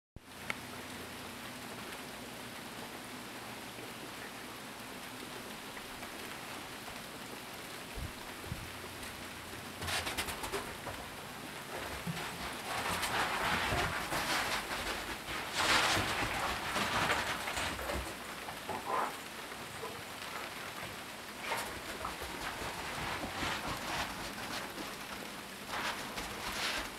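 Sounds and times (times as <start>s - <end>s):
freezing rain hissing on ice: 0.2s - 26.9s.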